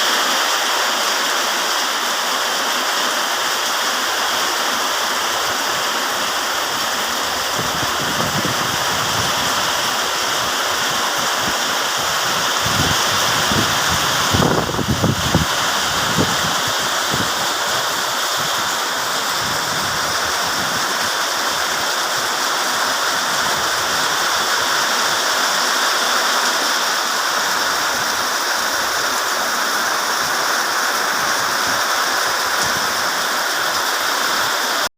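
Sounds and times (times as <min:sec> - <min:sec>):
heavy rain pouring: 0:00.0 - 0:34.9
wind gusting against microphone: 0:04.9 - 0:34.6.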